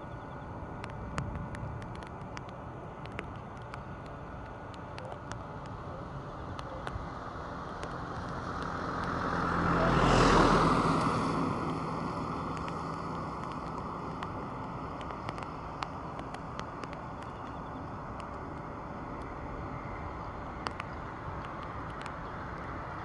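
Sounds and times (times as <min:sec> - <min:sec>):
jet engines of landing airliner: 0:00.0 - 0:23.0.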